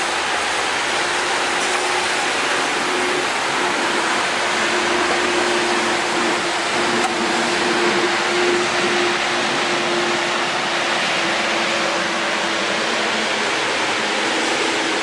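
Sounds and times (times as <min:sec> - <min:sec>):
city traffic hiss: 0:00.0 - 0:15.0.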